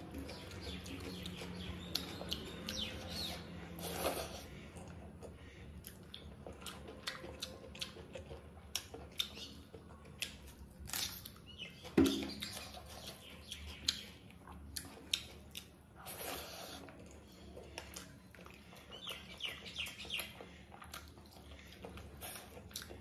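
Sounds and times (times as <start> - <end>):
chewing and lip-smacking: 0.0 - 23.0.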